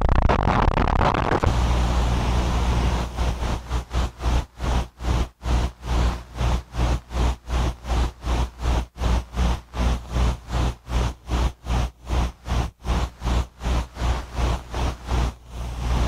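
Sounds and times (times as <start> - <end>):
pulsing distorted tape hiss: 0.0 - 16.0.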